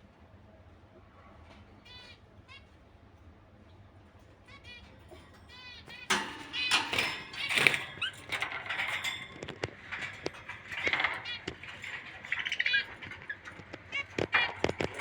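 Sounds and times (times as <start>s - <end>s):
caged birds chirping: 1.4s - 15.0s.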